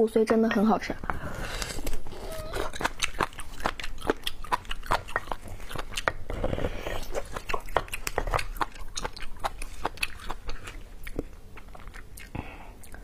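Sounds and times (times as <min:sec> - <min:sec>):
wet chewing and lip-smacking: 0:01.0 - 0:13.0.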